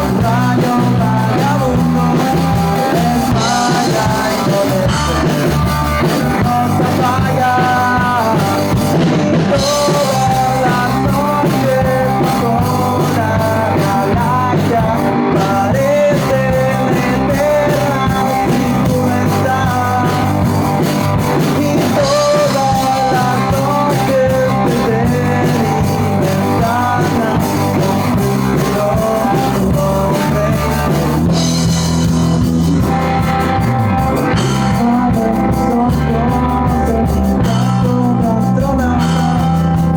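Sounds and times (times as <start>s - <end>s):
rock song with sung vocals: 0.0s - 39.9s.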